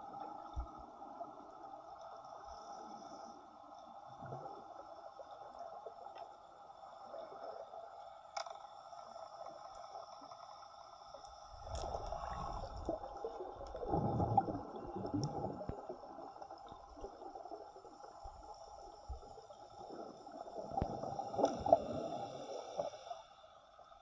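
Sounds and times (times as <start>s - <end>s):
muffled underwater sloshing and gurgling: 0.0s - 24.0s.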